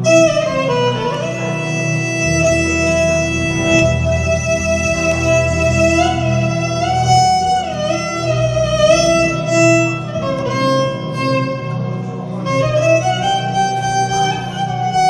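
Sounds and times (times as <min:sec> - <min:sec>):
keyboard accompaniment: 0:00.0 - 0:15.0
violin melody with pitch slides: 0:00.0 - 0:15.0.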